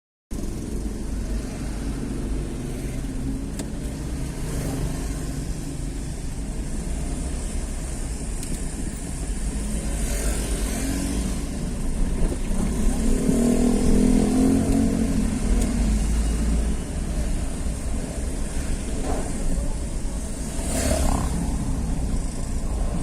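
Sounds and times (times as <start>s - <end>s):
vehicle engine and road noise: 0.3s - 23.0s.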